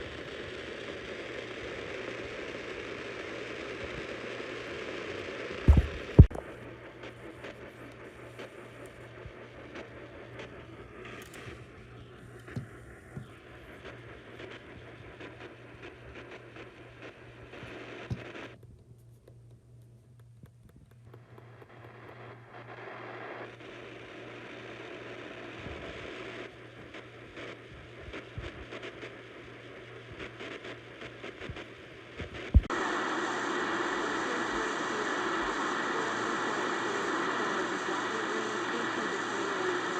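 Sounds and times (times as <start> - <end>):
crackles and clicks: 0.0 - 39.9
radio static hiss: 0.0 - 39.9.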